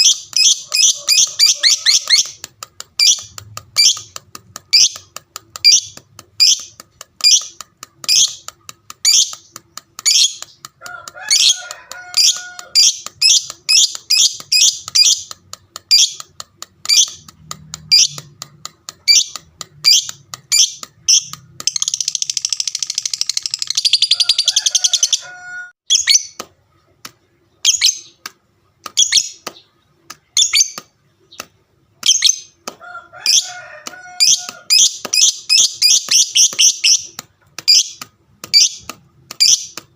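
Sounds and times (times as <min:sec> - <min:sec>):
lovebird chirping: 0:00.0 - 0:02.4, 0:03.0 - 0:09.4, 0:10.0 - 0:10.6, 0:11.3 - 0:16.2, 0:16.8 - 0:18.2, 0:19.0 - 0:25.3, 0:25.9 - 0:26.4, 0:27.6 - 0:28.2, 0:29.0 - 0:32.6, 0:34.2 - 0:39.8.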